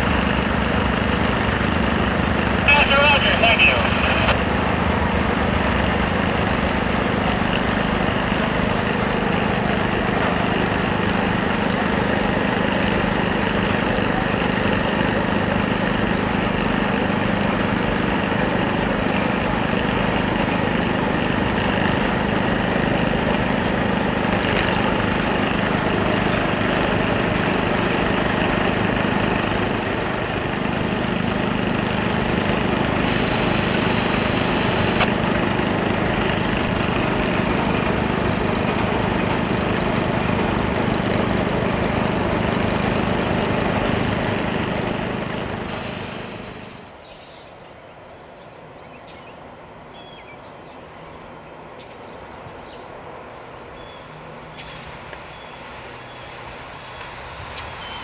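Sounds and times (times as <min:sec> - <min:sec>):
freight train rumbling over bridge: 0:00.0 - 0:58.0.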